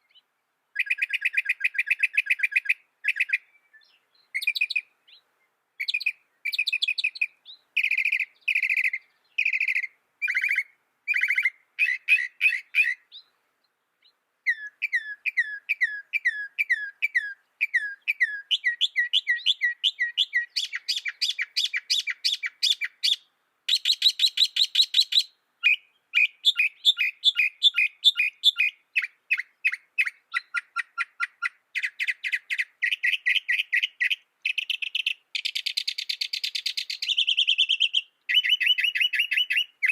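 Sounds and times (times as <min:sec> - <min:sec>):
mockingbird singing: 0:00.0 - 0:39.9.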